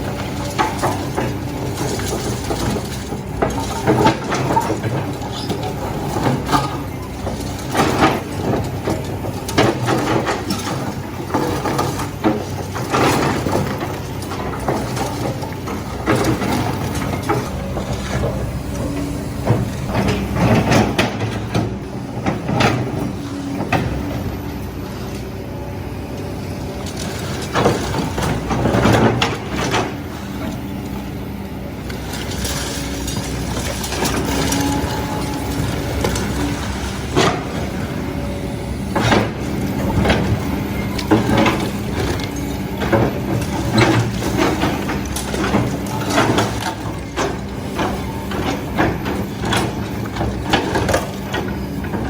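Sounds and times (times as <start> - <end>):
diesel engine humming: 0.0 - 52.0.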